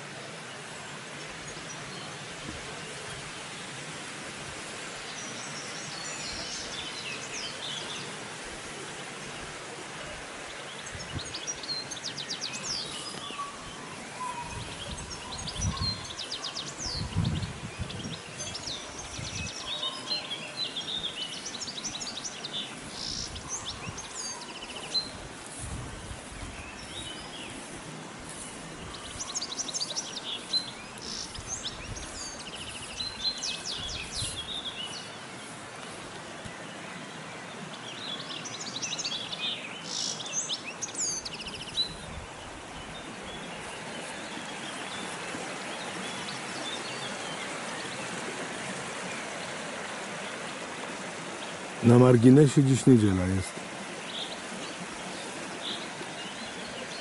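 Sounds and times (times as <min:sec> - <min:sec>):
songbirds singing and chirping: 0:00.0 - 0:57.0
steady background hiss: 0:00.0 - 0:57.0.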